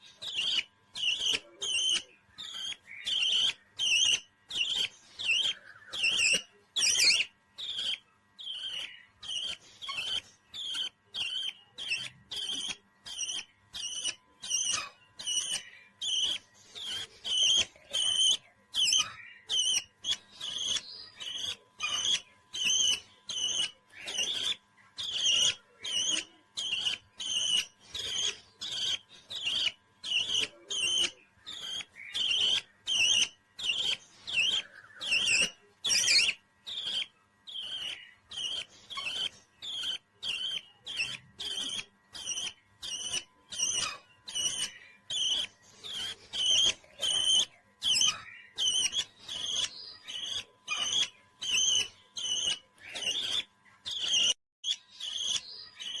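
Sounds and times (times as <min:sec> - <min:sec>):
parrot chirping: 0:00.0 - 0:56.0.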